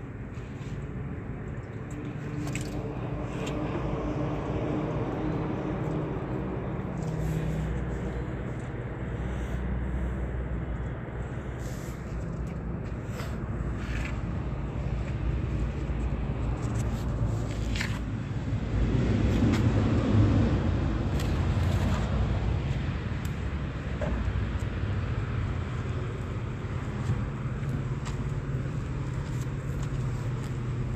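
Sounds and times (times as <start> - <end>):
engine and road rumble: 0.0 - 30.9.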